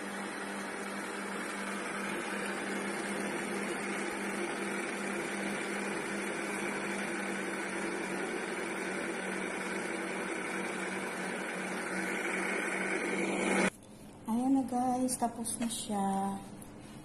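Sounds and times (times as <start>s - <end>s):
electric meat grinder running: 0.0s - 13.7s.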